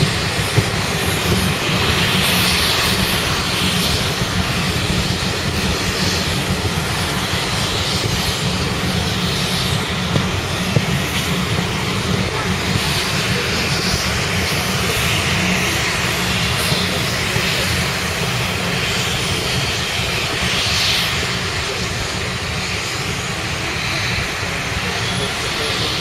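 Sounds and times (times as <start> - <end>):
steam train running at speed: 0.0 - 26.0.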